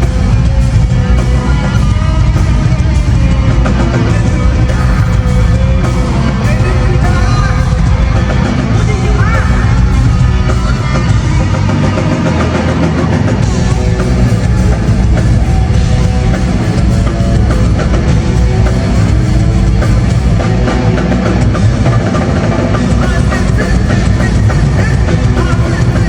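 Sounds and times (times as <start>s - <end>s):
live band music: 0.0s - 26.0s.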